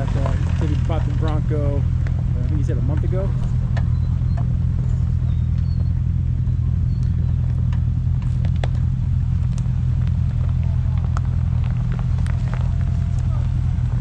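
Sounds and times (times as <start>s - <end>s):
engine running low drone: 0.0s - 14.0s.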